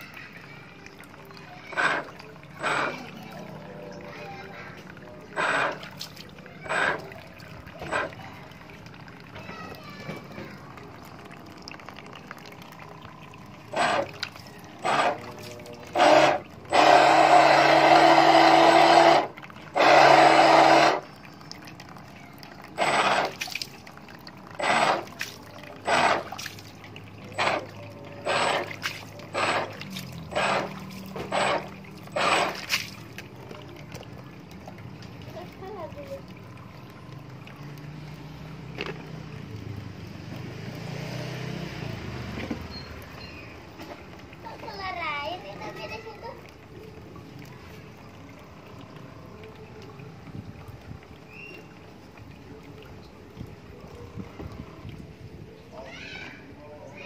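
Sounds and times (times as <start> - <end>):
model boat motor: 0.0 - 57.0
propeller splashing water: 0.0 - 57.0.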